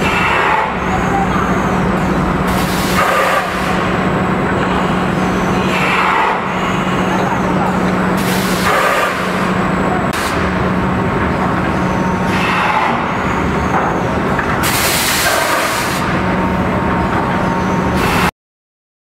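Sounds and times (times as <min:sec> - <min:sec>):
machinery humming: 0:00.0 - 0:18.3.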